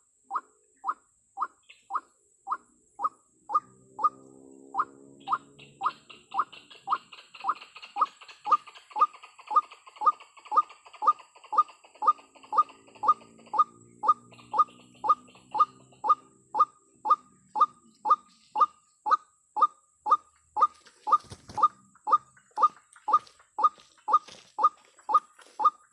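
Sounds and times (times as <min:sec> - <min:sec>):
waterhen calling: 0:00.3 - 0:04.2, 0:04.8 - 0:25.9.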